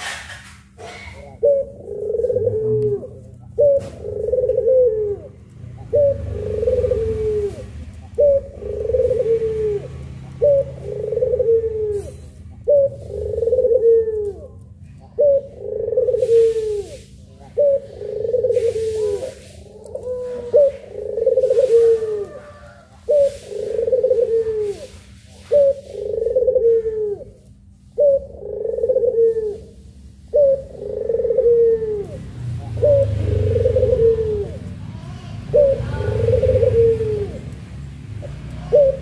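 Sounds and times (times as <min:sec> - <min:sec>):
dove cooing: 0:00.8 - 0:39.0.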